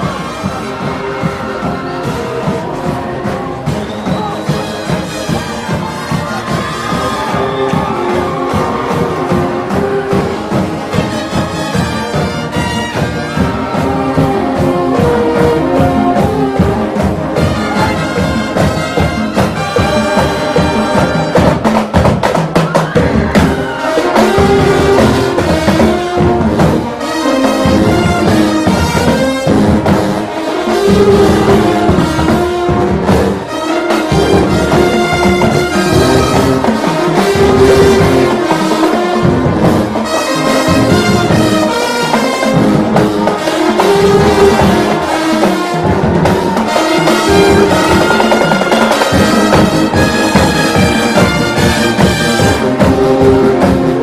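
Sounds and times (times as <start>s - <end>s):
brass section playing: 0.0s - 54.0s
marching drums: 0.0s - 54.0s.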